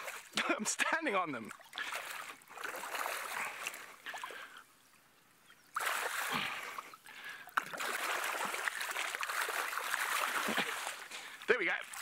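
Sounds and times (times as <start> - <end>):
water splashing: 0.0 - 4.7, 5.6 - 12.0.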